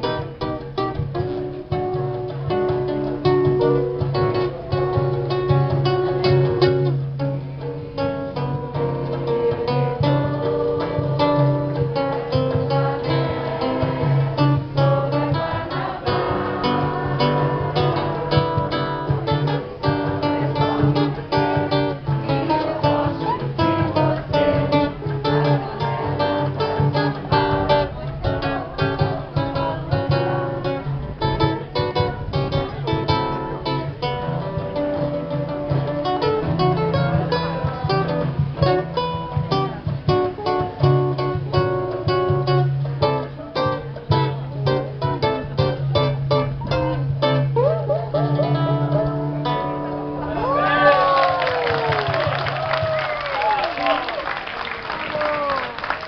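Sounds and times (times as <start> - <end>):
acoustic guitars playing samba: 0.0 - 56.0.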